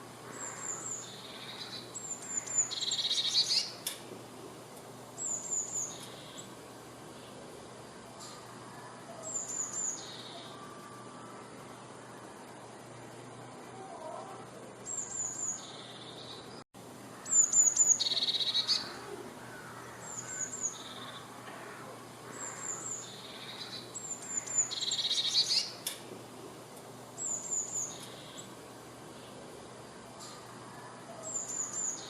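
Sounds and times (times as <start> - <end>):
small bird singing: 0.2 - 4.0, 5.2 - 13.0, 13.7 - 26.0, 27.1 - 32.0.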